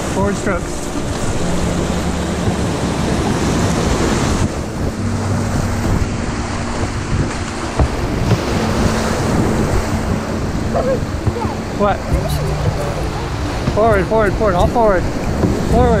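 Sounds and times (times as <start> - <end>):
whitewater rushing and splashing: 0.0 - 16.0
wind buffeting microphone: 0.0 - 16.0.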